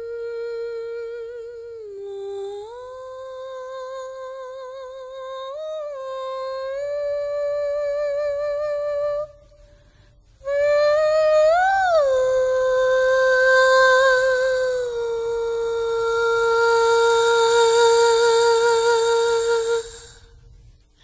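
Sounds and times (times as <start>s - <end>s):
person humming a melody: 0.0s - 9.4s, 10.4s - 20.3s.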